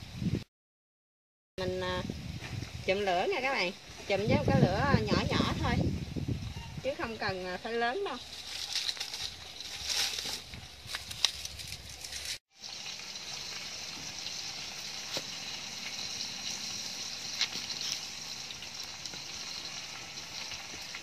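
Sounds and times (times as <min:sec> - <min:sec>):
wood fire hissing and crackling: 0:01.6 - 0:21.0.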